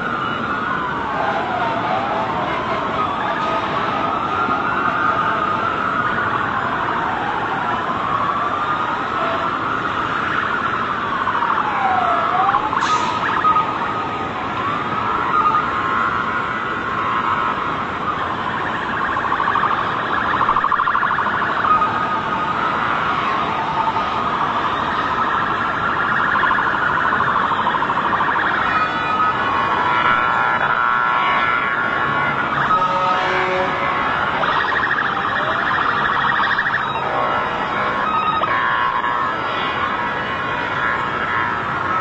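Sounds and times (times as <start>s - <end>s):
constant noisy background: 0.0s - 42.0s
sirens wailing: 0.0s - 42.0s
steady held siren tone: 0.0s - 42.0s.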